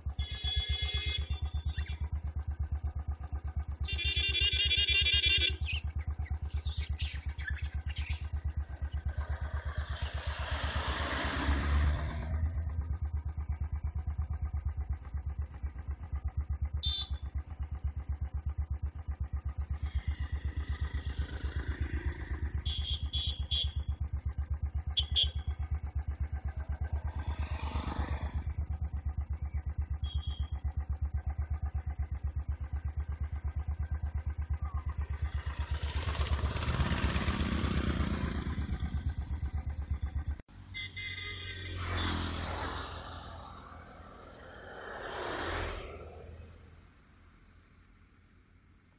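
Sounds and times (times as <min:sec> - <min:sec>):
motorcycle engine idling: 0:00.0 - 0:42.5
motorcycle passing: 0:00.0 - 0:47.7.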